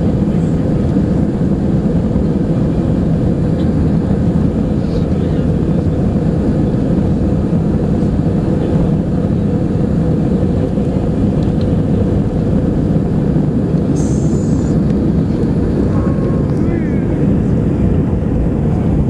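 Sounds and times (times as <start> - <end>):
jet engines at takeoff power: 0.0 - 19.0
runway rumble: 0.0 - 19.0.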